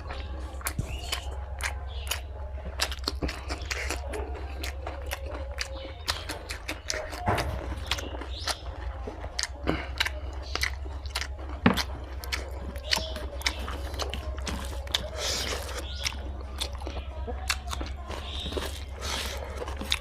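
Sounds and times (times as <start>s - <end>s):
chewing with wet mouth clicks: 0.0s - 20.0s.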